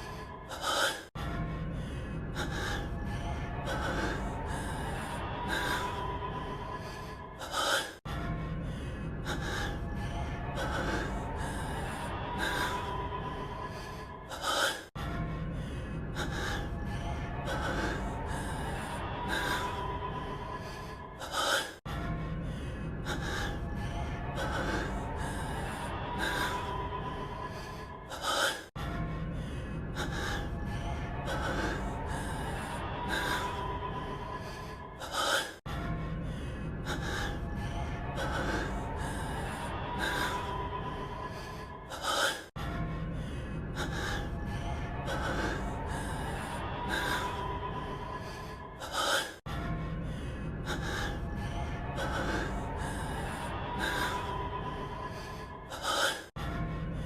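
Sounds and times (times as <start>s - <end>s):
man breathing heavily and gasping: 0.0s - 57.0s.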